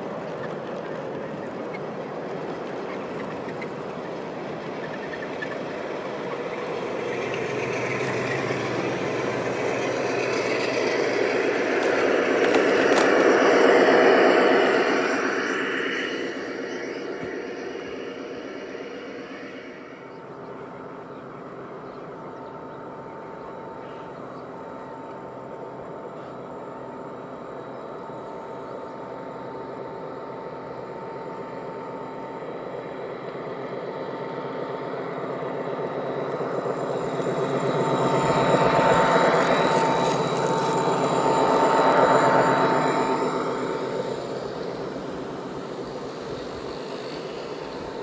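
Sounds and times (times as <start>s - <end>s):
model train whine: 0.0s - 48.0s.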